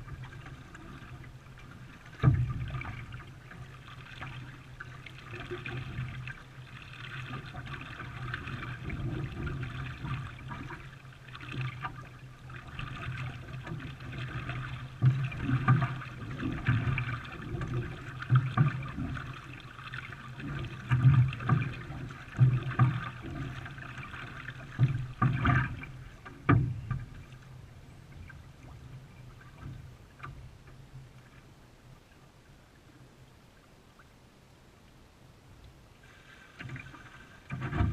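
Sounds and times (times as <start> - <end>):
paddle splashes and knocks: 0.0 - 31.5, 36.1 - 37.9
water sloshing: 0.0 - 34.2, 35.6 - 37.9.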